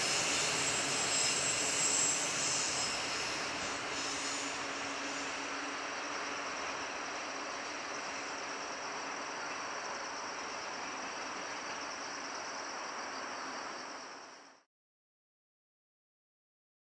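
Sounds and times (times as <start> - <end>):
insects buzzing: 0.0 - 14.6.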